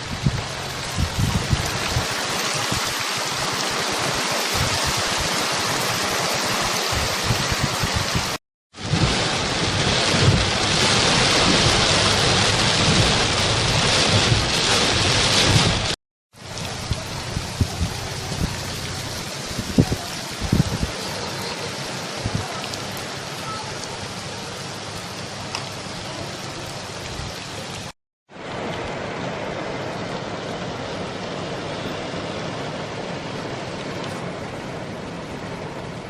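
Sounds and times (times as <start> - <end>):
heavy rain hissing: 0.0 - 36.0.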